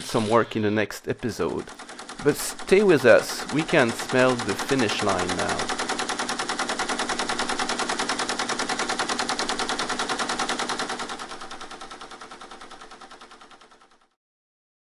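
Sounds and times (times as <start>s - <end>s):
teletype clattering: 0.0s - 13.9s.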